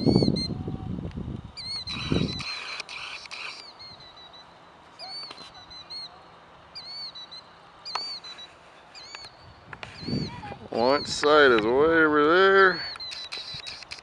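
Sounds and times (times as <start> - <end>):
bird alarm calls: 1.6 - 11.7, 12.6 - 14.0.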